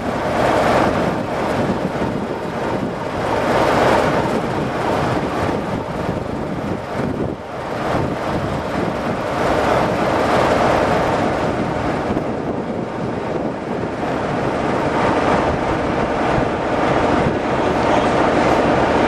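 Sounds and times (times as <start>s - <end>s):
locomotive diesel engine running: 0.0s - 19.0s.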